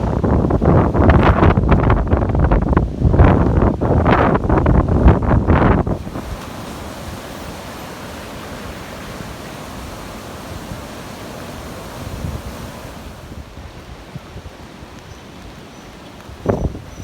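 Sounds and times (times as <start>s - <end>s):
storm rushing noise: 0.0s - 14.3s
wind buffeting microphone: 0.0s - 17.0s.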